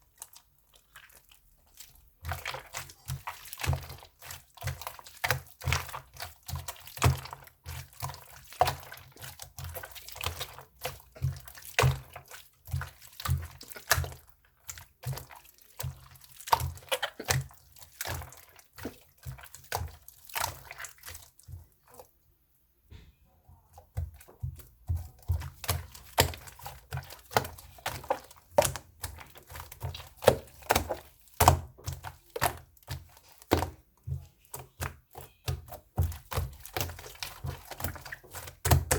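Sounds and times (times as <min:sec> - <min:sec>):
slime squished by hand: 0:00.0 - 0:22.1, 0:22.9 - 0:38.9.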